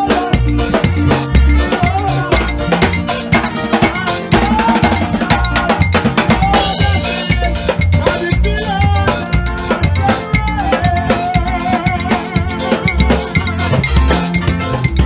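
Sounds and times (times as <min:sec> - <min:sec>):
gospel band playing: 0:00.0 - 0:15.0
low drum beat: 0:00.0 - 0:15.0.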